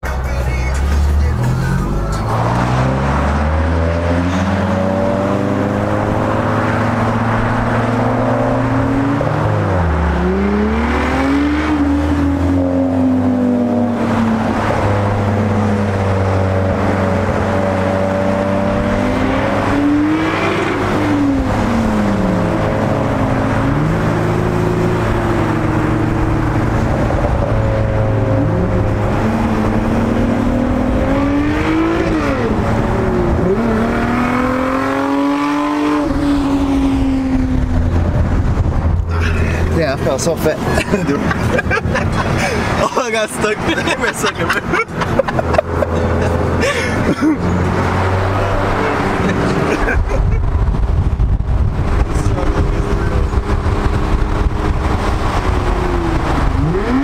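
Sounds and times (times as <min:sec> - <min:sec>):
car engines accelerating: 0:00.0 - 0:57.0
road and wind rumble: 0:00.0 - 0:57.0.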